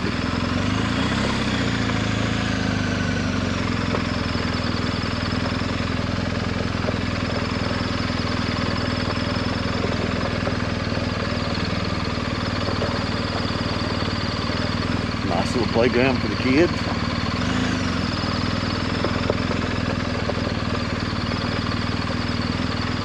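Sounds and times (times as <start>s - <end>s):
motorcycle engine humming steadily: 0.0s - 23.0s.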